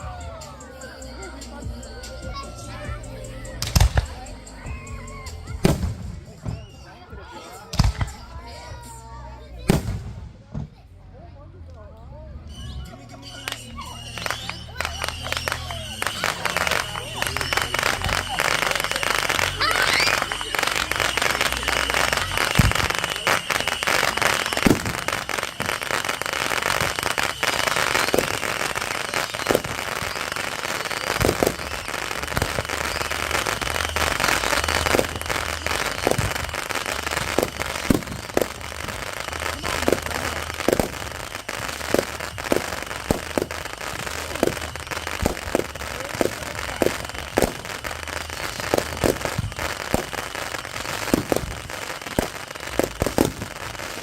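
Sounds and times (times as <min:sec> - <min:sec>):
fireworks bangs: 0:00.0 - 0:08.9, 0:09.6 - 0:10.8, 0:12.5 - 0:54.0
fireworks crackling: 0:00.0 - 0:10.8, 0:12.4 - 0:54.0.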